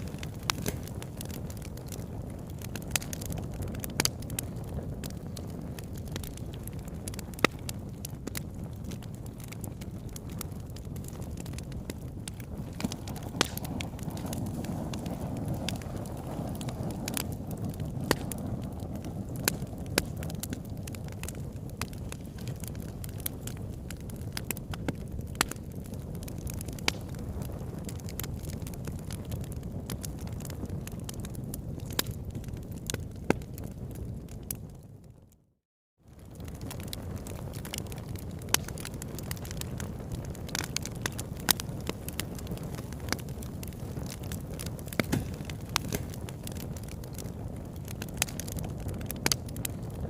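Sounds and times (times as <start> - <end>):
campfire crackling: 0.0 - 35.3, 36.1 - 50.0.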